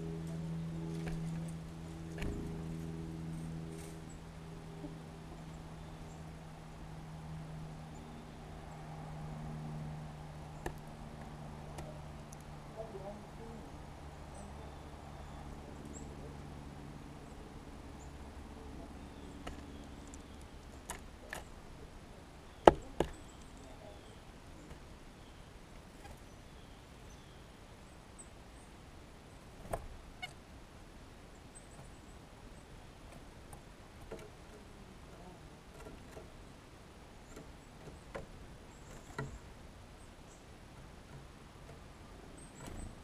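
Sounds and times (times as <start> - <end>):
birds pecking at window feeder: 0.0 - 27.4, 31.3 - 43.0.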